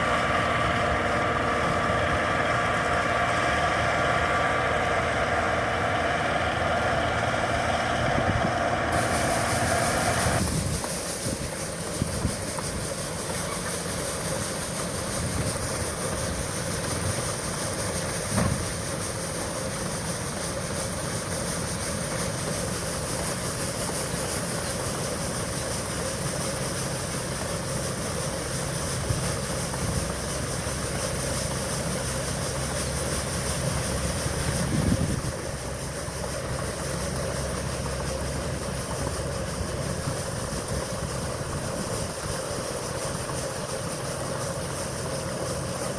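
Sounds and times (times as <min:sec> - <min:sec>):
combine harvester droning: 0:00.0 - 0:45.9
high hiss: 0:05.8 - 0:45.9.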